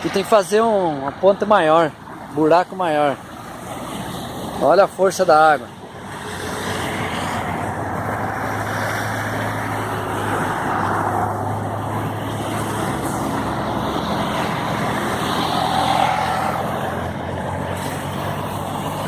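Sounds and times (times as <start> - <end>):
floodwater rushing through culvert: 0.0 - 19.0.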